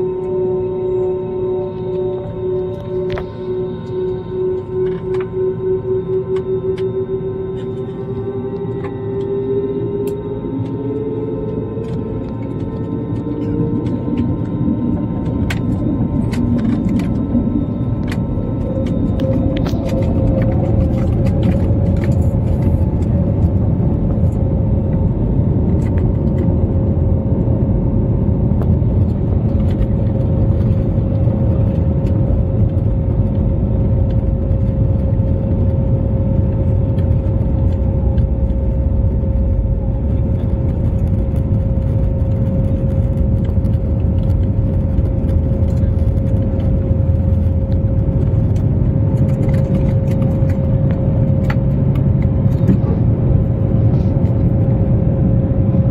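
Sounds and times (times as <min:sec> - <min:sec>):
jet engines rumbling and whining: 0:00.0 - 0:55.9.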